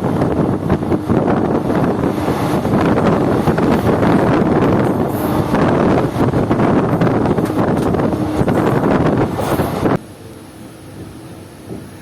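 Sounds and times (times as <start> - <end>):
wind buffeting microphone: 0.0 - 10.0, 10.9 - 12.0
steady hum: 0.0 - 12.0
train rushing and rumbling: 0.0 - 12.0.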